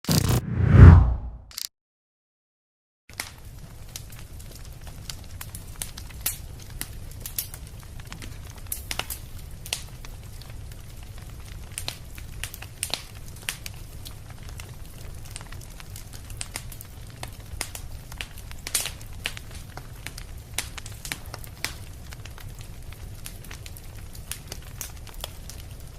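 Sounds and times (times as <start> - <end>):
fire crackling pops and snaps: 0.1 - 0.4, 3.1 - 25.9
low rumble of flames: 3.1 - 25.9.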